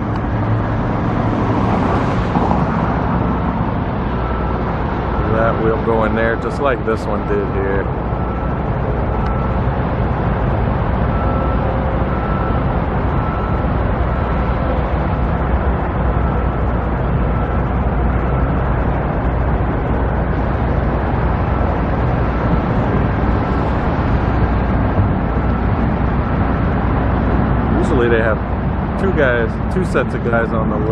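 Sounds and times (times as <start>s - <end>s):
machinery rumble: 0.0s - 30.9s
traffic noise: 0.0s - 30.9s.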